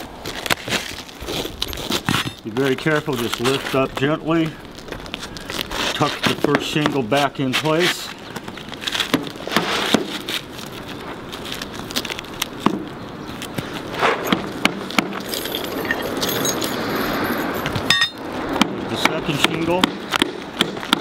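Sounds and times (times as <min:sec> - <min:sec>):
shingles scraping and crackling: 0:00.0 - 0:21.0.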